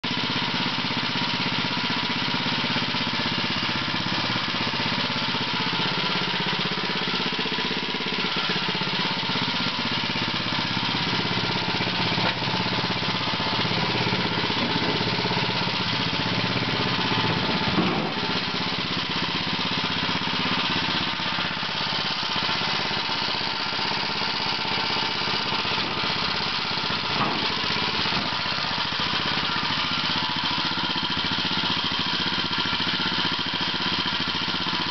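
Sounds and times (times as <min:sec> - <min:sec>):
small gasoline engine running: 0:00.0 - 0:34.9.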